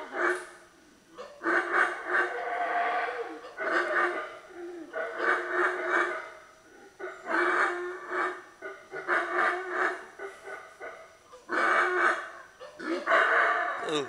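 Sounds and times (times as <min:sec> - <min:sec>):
howler monkey roaring: 0:01.4 - 0:14.0.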